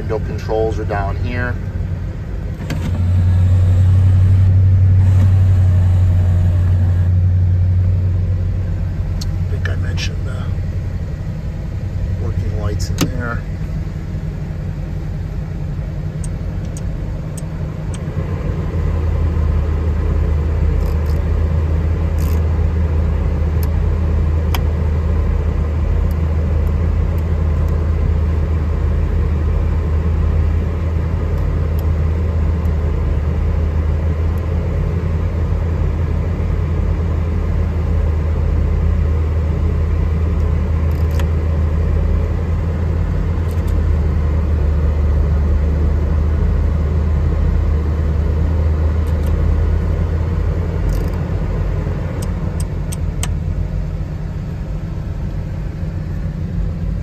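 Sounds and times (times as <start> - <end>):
car engine idling: 0.0 - 57.0
heater blower fan hum: 0.0 - 57.0.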